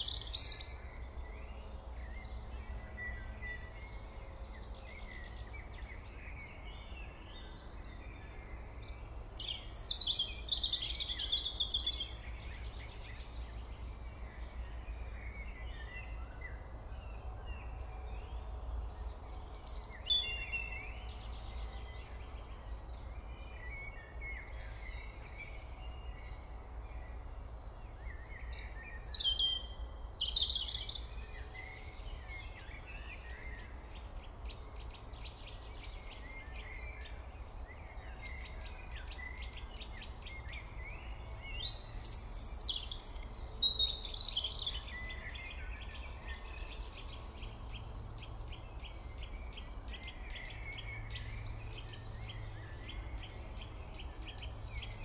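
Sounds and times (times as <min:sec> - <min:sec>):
birds chirping and singing: 0:00.0 - 0:55.0.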